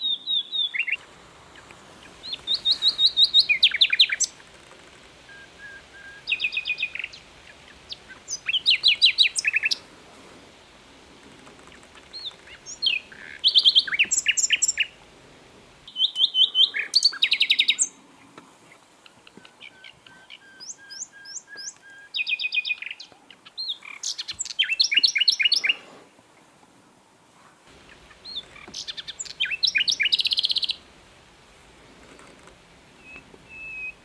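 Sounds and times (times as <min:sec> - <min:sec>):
songbird chirping and trilling: 0:00.0 - 0:09.9, 0:11.5 - 0:15.1, 0:15.8 - 0:25.9, 0:27.7 - 0:30.9, 0:32.9 - 0:34.0.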